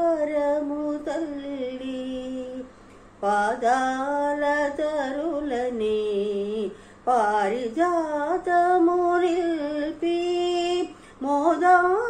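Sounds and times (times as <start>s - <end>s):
woman singing solo: 0.0s - 12.0s.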